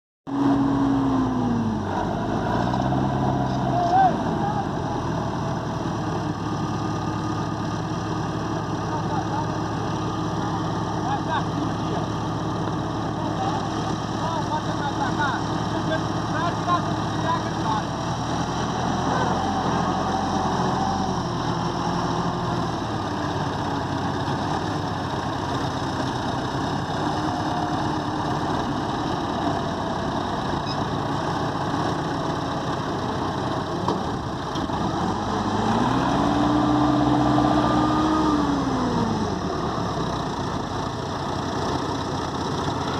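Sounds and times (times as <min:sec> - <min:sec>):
tractor diesel engines under load: 0:00.3 - 0:42.9.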